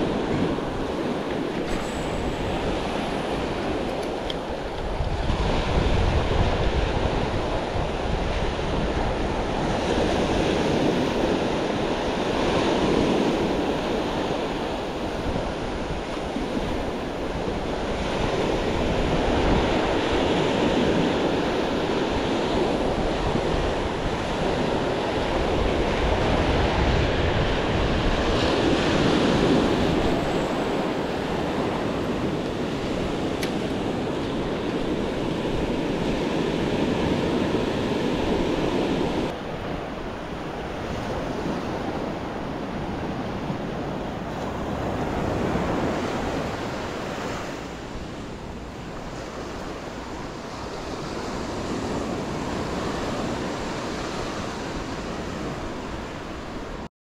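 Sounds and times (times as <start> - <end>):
surf washing over beach: 0.0 - 56.9
wind rumbling on microphone: 0.0 - 56.9.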